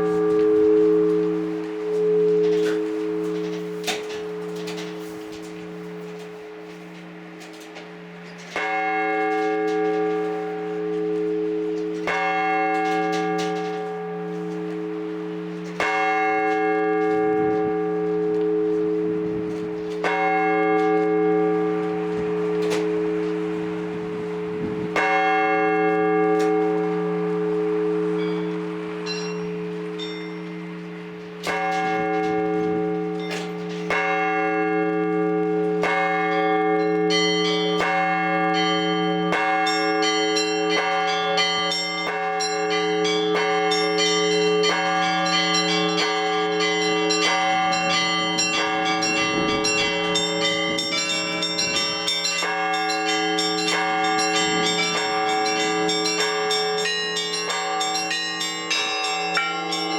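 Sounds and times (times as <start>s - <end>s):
large church bells humming: 0.0s - 59.9s
small bells pealing: 8.2s - 59.9s.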